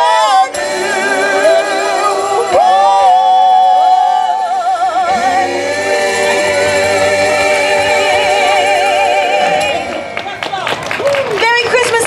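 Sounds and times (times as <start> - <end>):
vocal quartet singing in harmony: 0.0 - 10.2.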